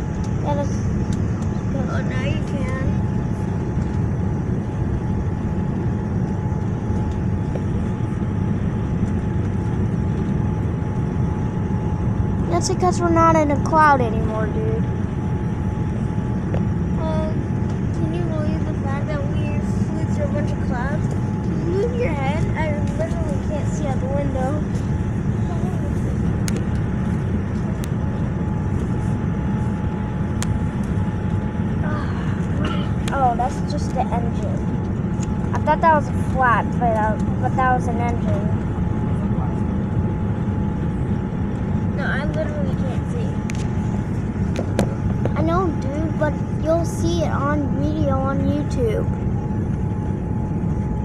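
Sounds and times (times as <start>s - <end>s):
airplane cabin engine rumble: 0.0s - 51.0s
faint steady whine: 0.0s - 51.0s.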